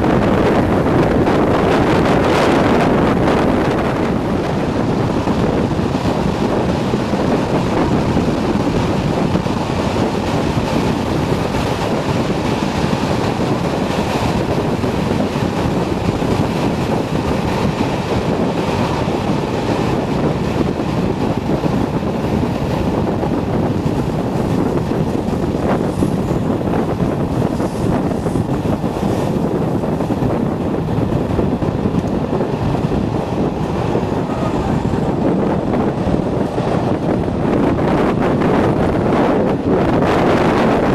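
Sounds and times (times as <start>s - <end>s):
train rushing and rumbling: 0.0s - 40.9s
wind buffeting microphone: 0.0s - 40.9s.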